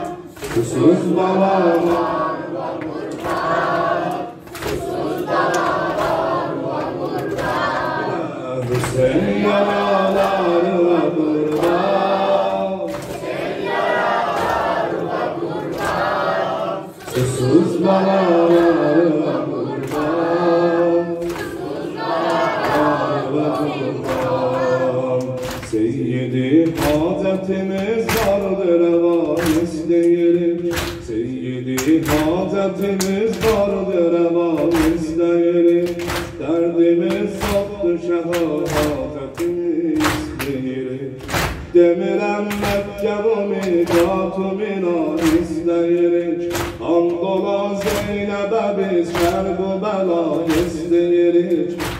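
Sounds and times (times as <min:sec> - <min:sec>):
group chanting a lament: 0:00.0 - 0:51.9
rhythmic chest-beating: 0:00.0 - 0:51.9.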